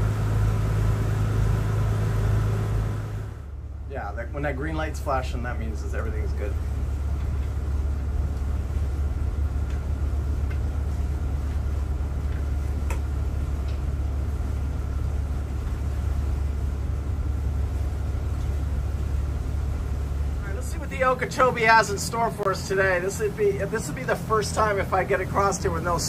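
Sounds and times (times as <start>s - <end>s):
boat diesel engines droning: 0.0s - 26.0s.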